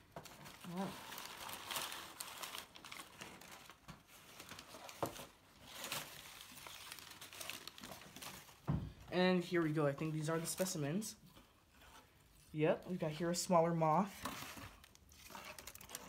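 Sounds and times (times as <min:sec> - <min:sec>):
newspaper rustling and crinkling: 0:00.0 - 0:08.7, 0:09.4 - 0:12.1, 0:12.9 - 0:16.0.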